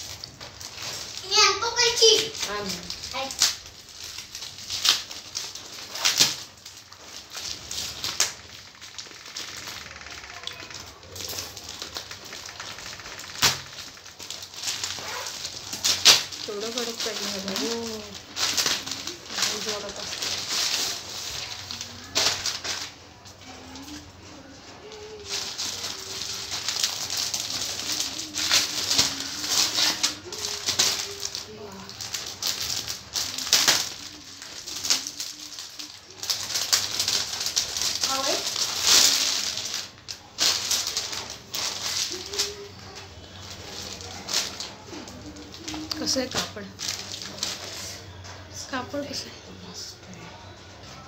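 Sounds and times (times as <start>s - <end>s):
plastic bag rustling and crinkling: 0.0s - 51.0s.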